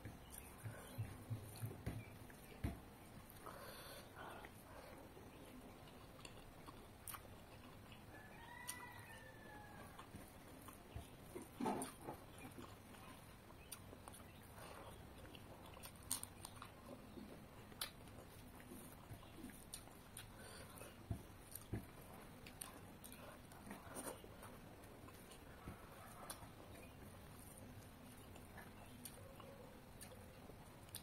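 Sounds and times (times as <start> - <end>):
soft chewing and lip smacks: 0.0 - 31.0.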